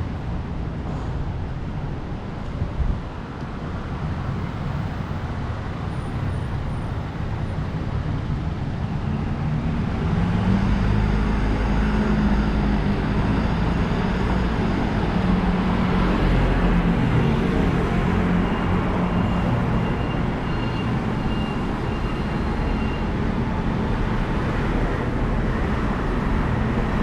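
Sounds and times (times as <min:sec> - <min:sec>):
street traffic: 0:00.0 - 0:27.0.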